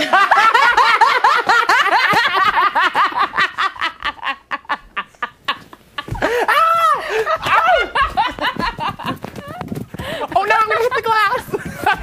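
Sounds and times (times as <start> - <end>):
man laughing hard: 0.0 - 12.0.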